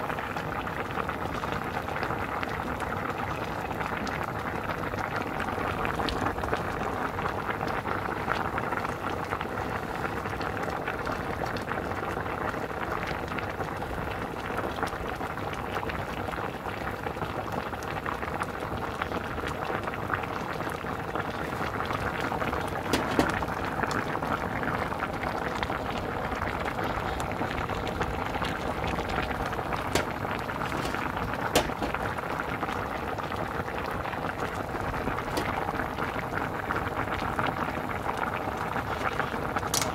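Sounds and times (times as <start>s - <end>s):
broth boiling and popping: 0.0s - 39.9s.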